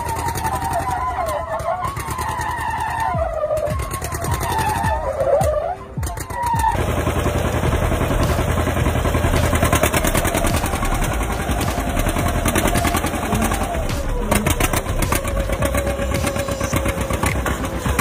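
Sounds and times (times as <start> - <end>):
tractor engine popping exhaust: 0.0 - 18.0.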